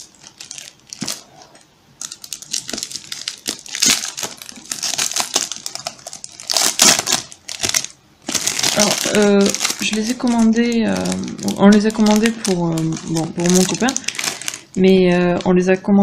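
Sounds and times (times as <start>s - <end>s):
plastic film crinkling: 0.0s - 15.6s.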